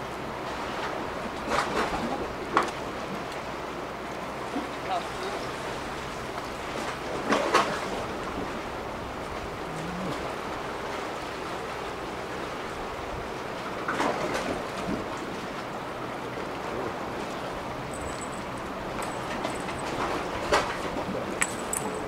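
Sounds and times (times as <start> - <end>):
sea water washing against concrete: 0.0 - 22.0.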